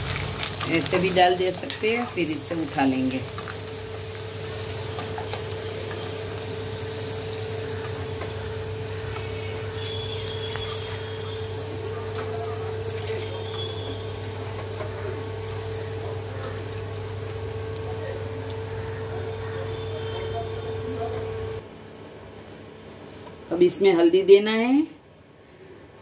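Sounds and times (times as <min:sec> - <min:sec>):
food sizzling in hot oil: 0:00.0 - 0:21.6.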